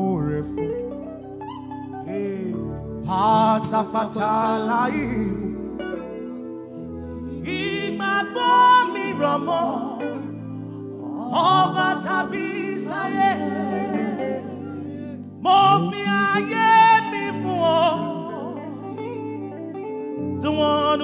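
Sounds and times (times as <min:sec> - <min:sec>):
gospel singing: 0:00.0 - 0:01.2, 0:02.0 - 0:06.4, 0:07.0 - 0:19.4, 0:20.4 - 0:21.0
held instrumental chords: 0:00.0 - 0:21.0.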